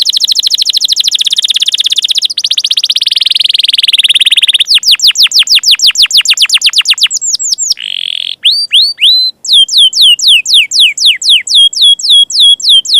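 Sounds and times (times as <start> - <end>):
canary singing: 0.0 - 12.9.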